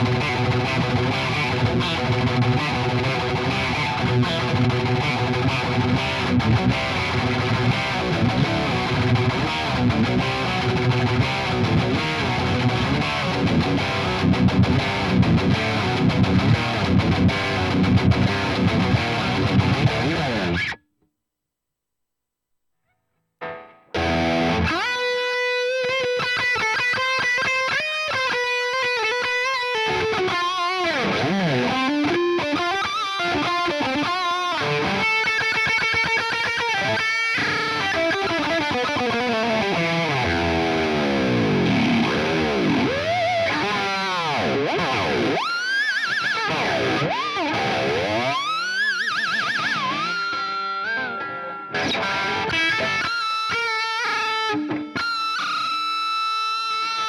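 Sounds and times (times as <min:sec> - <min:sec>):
distorted electric guitar: 0:00.0 - 0:20.8, 0:22.8 - 0:57.0.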